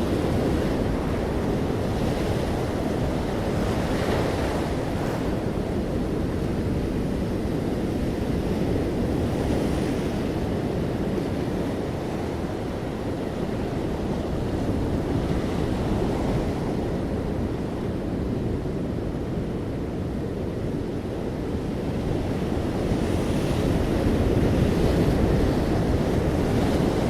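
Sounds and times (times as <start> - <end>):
sea waves breaking on shore: 0.0 - 27.0.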